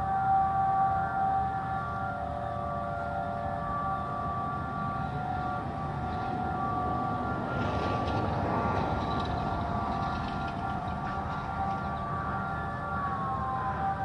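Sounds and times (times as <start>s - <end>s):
tornado warning sirens: 0.0s - 14.0s.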